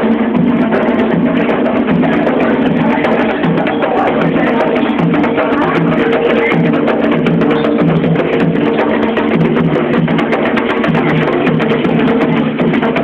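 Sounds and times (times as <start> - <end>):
drums with sharp clicking strikes: 0.0 - 13.0.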